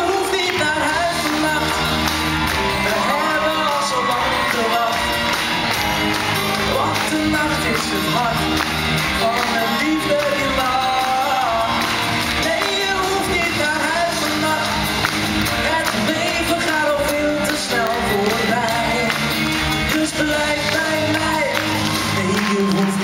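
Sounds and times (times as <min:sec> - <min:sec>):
man singing into microphone: 0:00.0 - 0:05.4, 0:06.4 - 0:23.0
loud backing music: 0:00.0 - 0:23.0.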